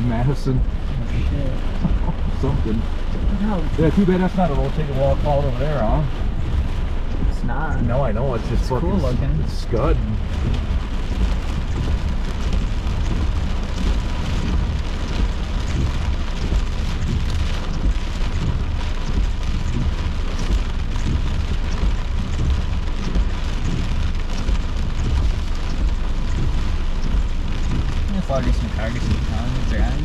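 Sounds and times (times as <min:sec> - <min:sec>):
deep rumble: 0:00.0 - 0:30.0
heavy rain on car roof: 0:00.0 - 0:30.0.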